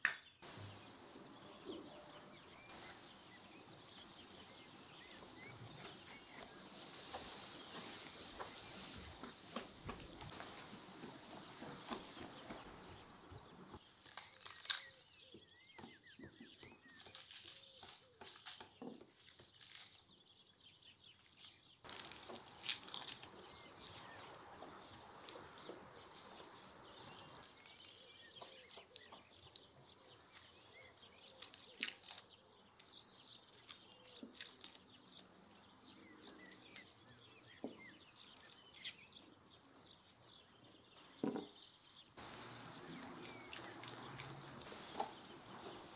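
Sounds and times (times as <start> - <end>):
faint birds chirping: 0.0 - 45.9.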